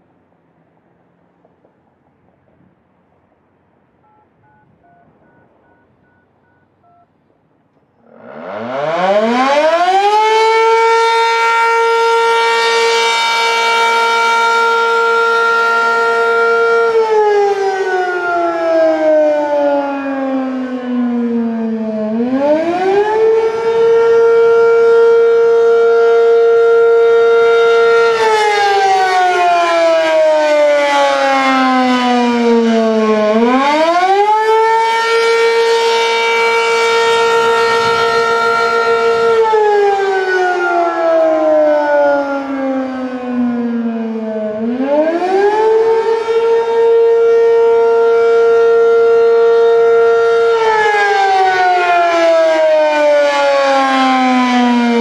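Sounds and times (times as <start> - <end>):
rotating warning siren rising and falling: 4.0 - 7.1, 8.0 - 55.0.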